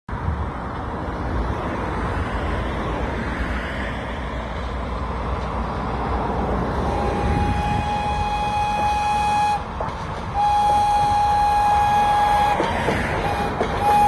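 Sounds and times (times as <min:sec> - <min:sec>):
highway traffic rumble: 0:00.1 - 0:14.0.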